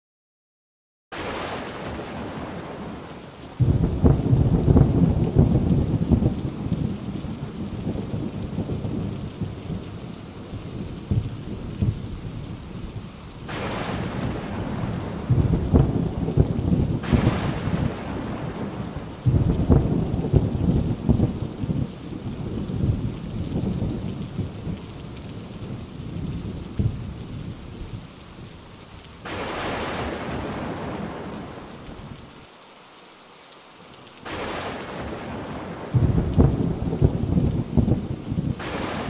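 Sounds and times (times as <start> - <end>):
steady rain: 1.1 - 39.0
rolling thunder: 1.2 - 28.0, 29.2 - 32.2, 34.3 - 39.0.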